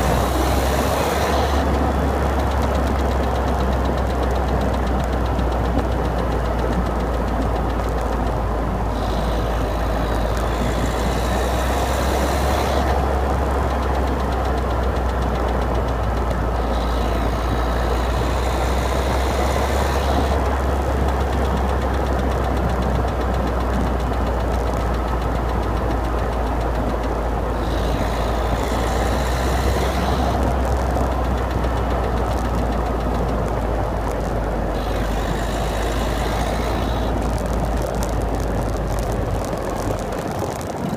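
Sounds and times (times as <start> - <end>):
diesel engine running: 0.0 - 40.9
engine clicking noise: 0.0 - 40.9.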